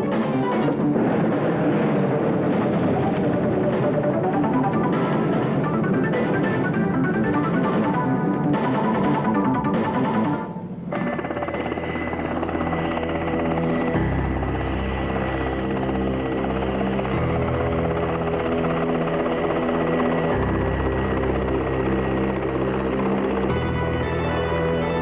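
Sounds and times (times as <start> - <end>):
helicopter rotor chopping: 0.0 - 25.0
music with low chords: 0.0 - 25.0
turbine noise: 0.0 - 25.0.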